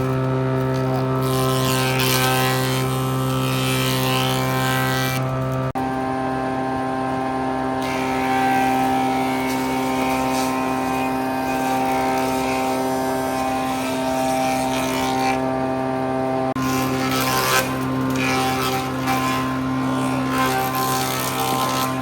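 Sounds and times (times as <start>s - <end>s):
machine humming drone: 0.0s - 22.0s.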